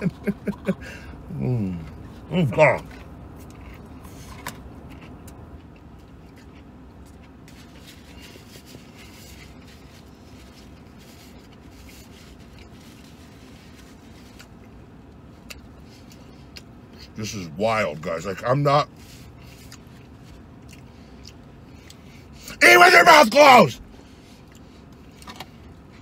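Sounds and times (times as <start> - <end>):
man chewing: 0.0 - 17.2, 18.9 - 22.4, 24.0 - 26.0
low hum inside vehicle cab: 0.0 - 26.0.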